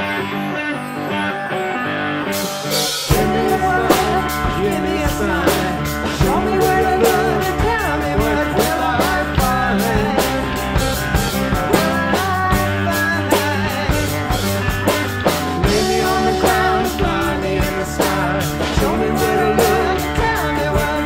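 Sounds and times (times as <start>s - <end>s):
electric guitars: 0.0s - 21.0s
person singing: 0.0s - 21.0s
drum kit beat: 2.4s - 21.0s.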